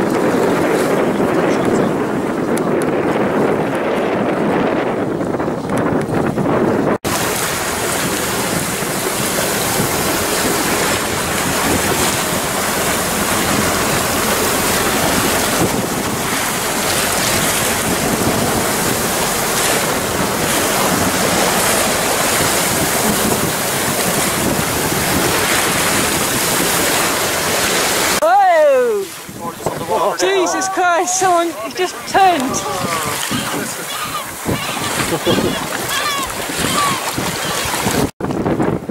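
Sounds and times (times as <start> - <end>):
sea waves rushing: 0.0 - 38.9
wind buffeting microphone: 0.0 - 38.9.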